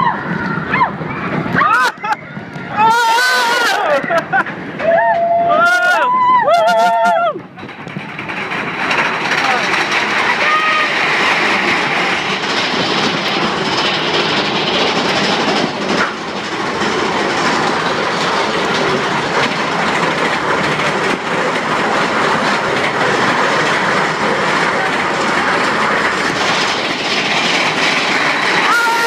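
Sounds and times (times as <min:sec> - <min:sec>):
roller coaster wheels on rails: 0:00.0 - 0:29.0.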